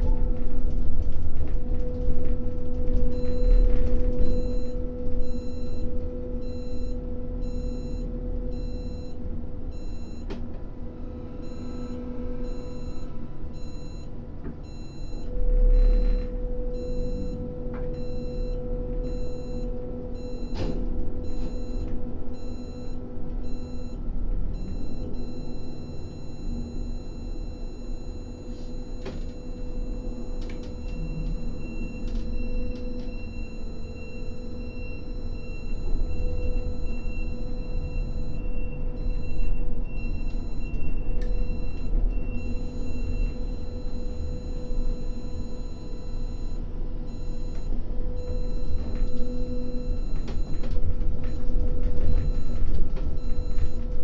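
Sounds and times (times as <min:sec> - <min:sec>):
crane machinery hum: 0:00.0 - 0:54.0.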